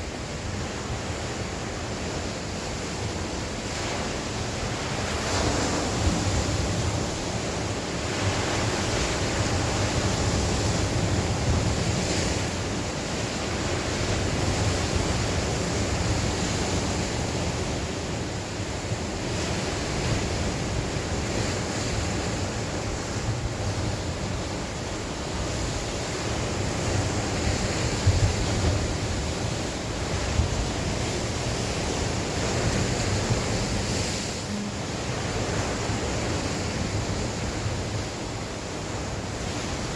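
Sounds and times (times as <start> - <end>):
sea waves breaking on shore: 0.0 - 39.9
wind rumbling on microphone: 0.0 - 39.9.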